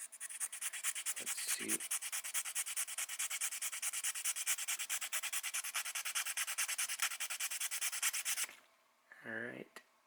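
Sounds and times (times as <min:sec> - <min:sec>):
hand file scraping: 0:00.0 - 0:08.5.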